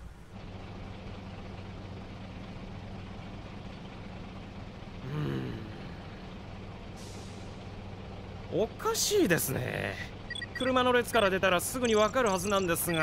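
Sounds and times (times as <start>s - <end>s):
idling vehicle engines hum: 0.0s - 13.0s.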